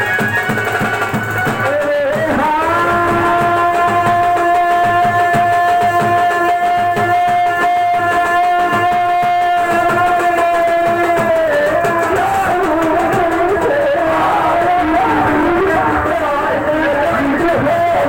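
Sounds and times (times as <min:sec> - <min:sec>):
fast even drumming: 0:00.0 - 0:18.0.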